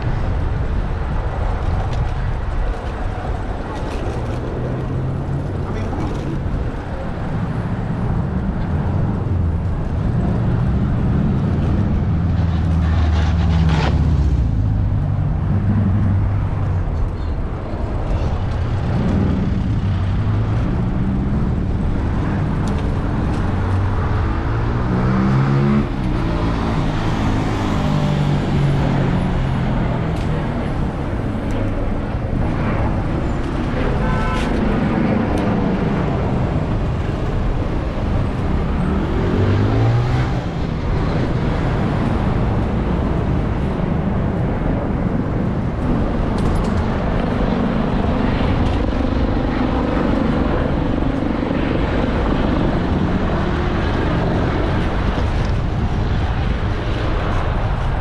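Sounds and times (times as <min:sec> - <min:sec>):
vehicle engines passing: 0:00.0 - 0:58.0.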